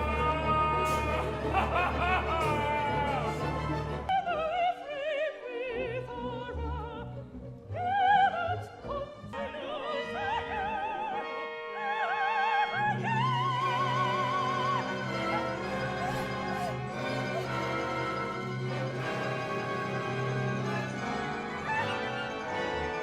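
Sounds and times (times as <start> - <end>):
operatic singing with vibrato: 0.0 - 23.0
orchestral accompaniment: 0.0 - 23.0.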